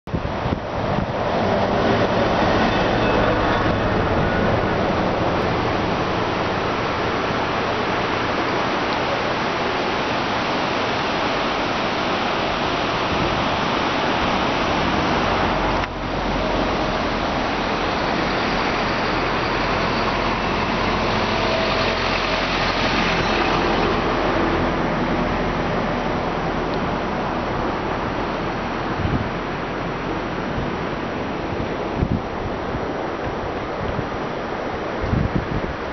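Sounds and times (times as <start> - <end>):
steady rushing noise: 0.1 - 35.9.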